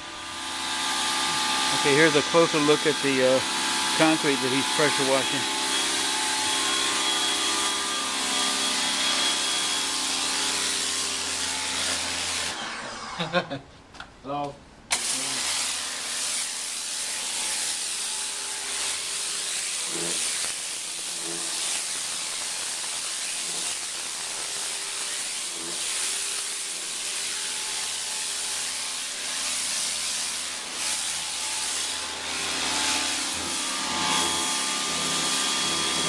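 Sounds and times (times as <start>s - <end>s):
pressure washer spraying concrete: 0.0s - 12.6s, 14.9s - 36.0s.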